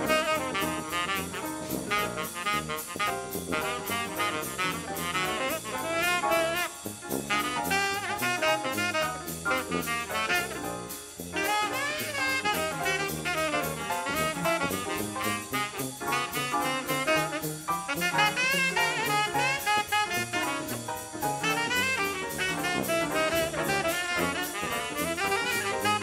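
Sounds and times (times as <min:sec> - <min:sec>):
drum kit: 0:00.0 - 0:26.0
jazz music with saxophone and brass: 0:00.0 - 0:26.0.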